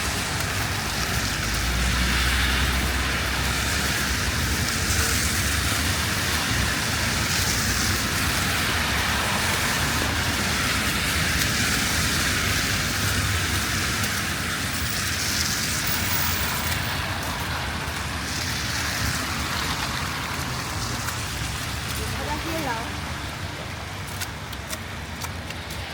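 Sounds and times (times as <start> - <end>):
low rumble of city traffic: 0.0 - 25.9
steady rain falling: 0.0 - 25.9.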